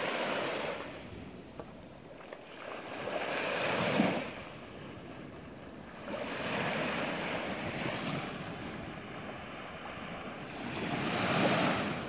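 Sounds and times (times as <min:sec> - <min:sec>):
waves breaking on sandy beach: 0:00.0 - 0:12.0.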